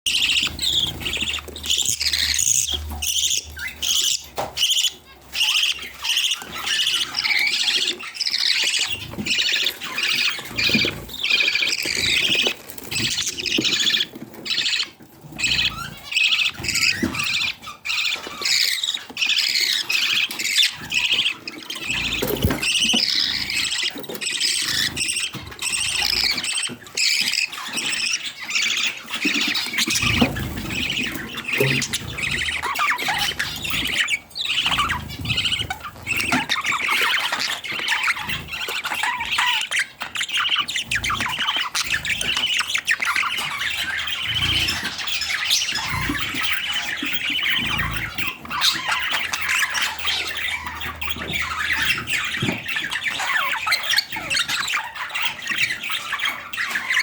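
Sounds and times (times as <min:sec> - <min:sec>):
budgerigars chattering and warbling: 0:00.1 - 0:57.0.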